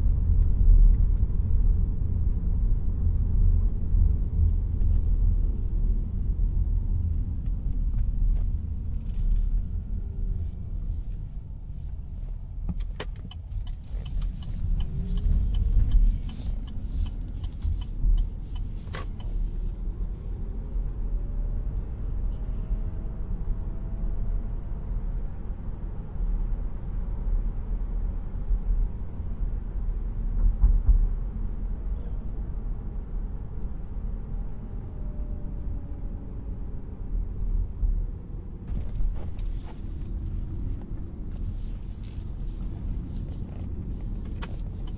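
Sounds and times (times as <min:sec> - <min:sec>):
road and tyre noise: 0:00.0 - 0:44.9.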